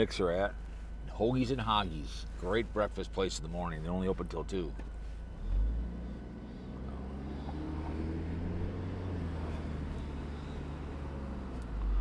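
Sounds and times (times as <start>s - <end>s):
car interior engine and road drone: 0.0s - 12.0s.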